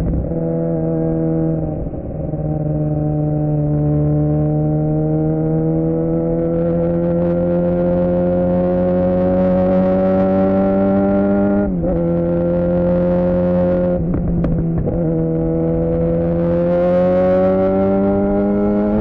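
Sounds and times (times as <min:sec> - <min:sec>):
motorcycle engine riding: 0:00.0 - 0:19.0.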